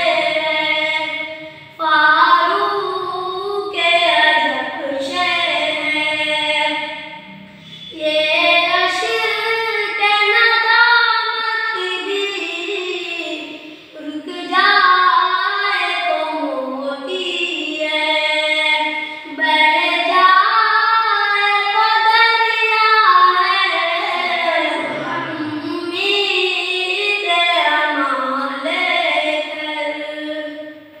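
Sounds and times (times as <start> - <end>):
person singing devotional song: 0.0 - 30.7.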